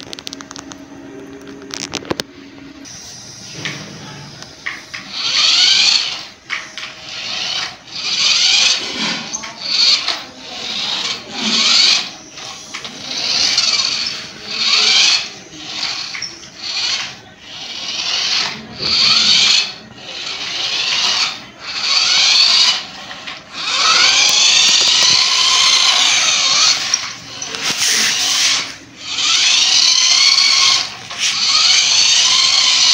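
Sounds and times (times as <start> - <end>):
toy car electric motor whining: 4.6 - 32.9.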